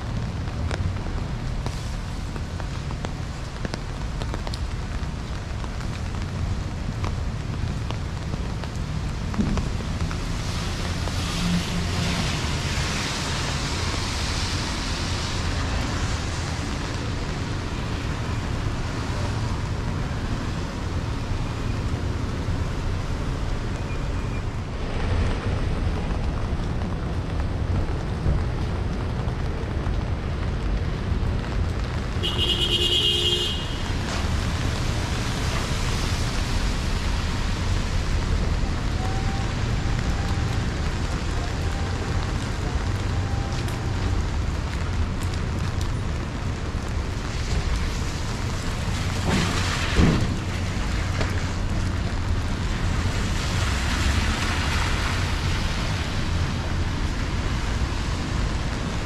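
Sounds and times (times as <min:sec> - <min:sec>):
rain on a street: 0:00.0 - 0:59.0
traffic rumble: 0:00.0 - 0:59.0
tyres hissing on wet pavement: 0:00.0 - 0:59.0.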